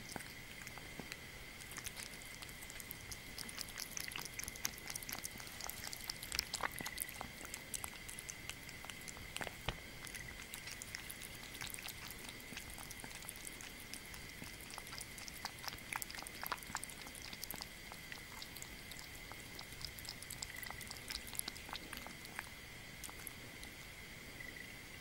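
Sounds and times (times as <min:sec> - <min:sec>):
kitten lapping from a bowl: 0:00.0 - 0:23.9.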